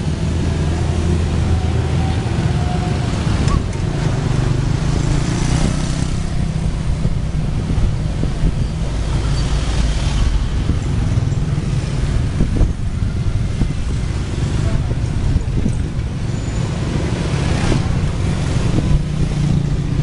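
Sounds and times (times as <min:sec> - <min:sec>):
street traffic rumble: 0:00.0 - 0:20.0
wind buffeting microphone: 0:01.2 - 0:20.0.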